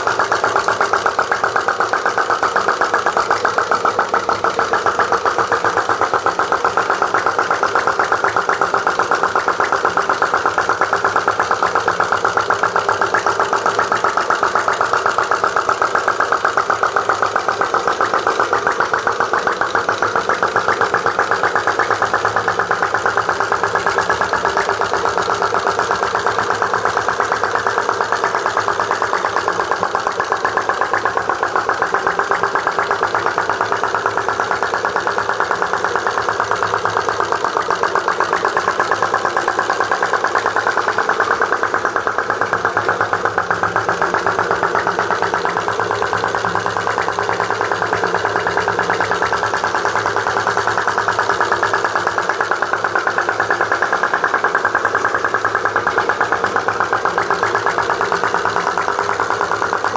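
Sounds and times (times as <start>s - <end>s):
model engine running: 0.0s - 59.9s.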